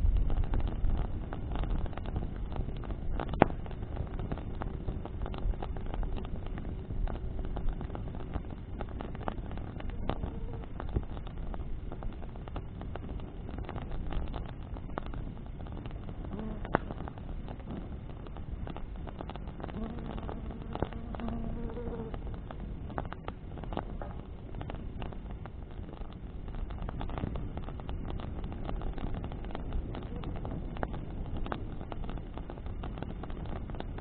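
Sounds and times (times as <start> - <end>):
burning wood crackling: 0.0 - 34.0
sharp fire pops: 0.0 - 34.0
wind rumble on microphone: 0.0 - 34.0.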